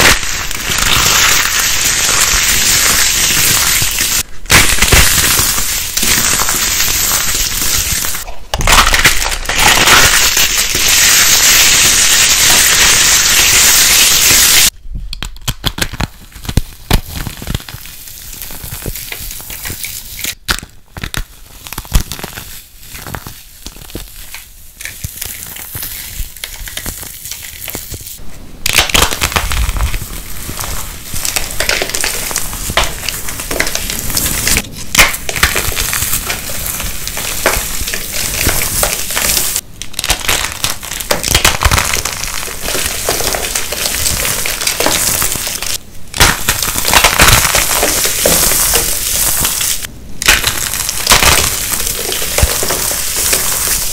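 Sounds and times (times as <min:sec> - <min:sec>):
dry soap crunching in hands: 0:00.0 - 0:53.9.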